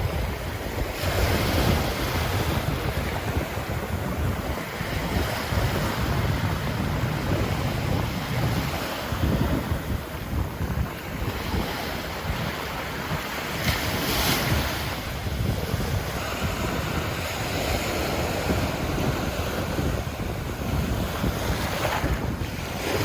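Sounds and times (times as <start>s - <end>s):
ocean surf breaking on beach: 0.0s - 23.0s
wind buffeting microphone: 0.0s - 23.0s.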